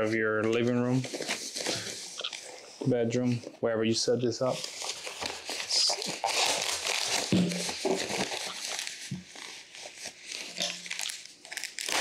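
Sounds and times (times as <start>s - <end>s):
foam wrap crinkling and rustling: 0.0s - 2.9s, 4.4s - 12.0s.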